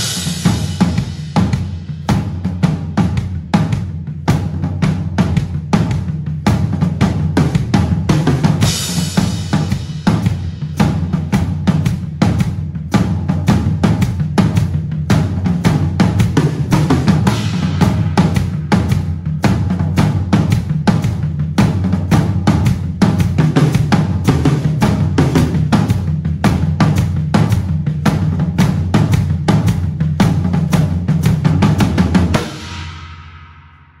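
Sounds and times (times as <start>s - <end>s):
drum kit played fast: 0.0s - 34.0s.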